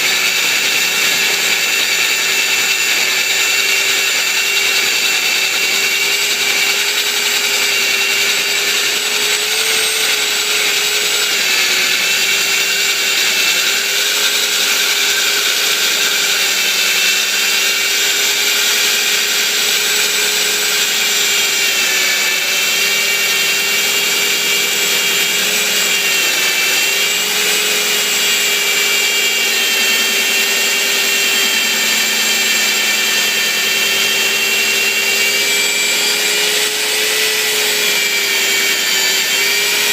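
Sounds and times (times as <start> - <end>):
drilling machine motor whine: 0.0 - 39.9.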